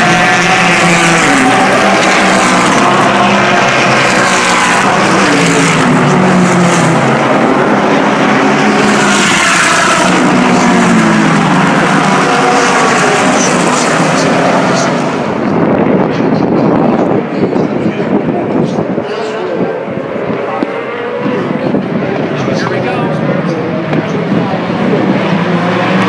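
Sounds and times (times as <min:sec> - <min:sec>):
race cars passing: 0:00.0 - 0:26.0.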